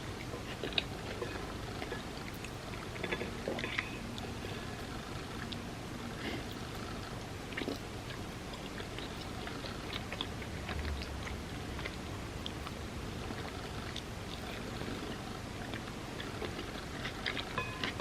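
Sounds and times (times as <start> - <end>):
chewing soft food: 0.0 - 18.0.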